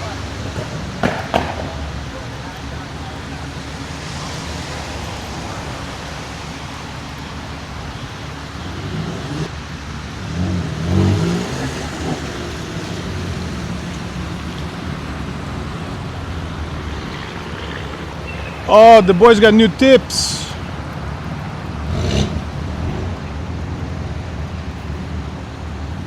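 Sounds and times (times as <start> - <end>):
car engine rolling by: 0.0 - 26.0.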